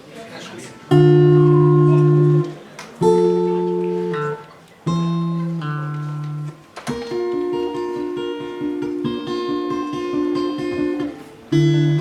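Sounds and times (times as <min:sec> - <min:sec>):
guitar strumming chords: 0:00.9 - 0:12.0.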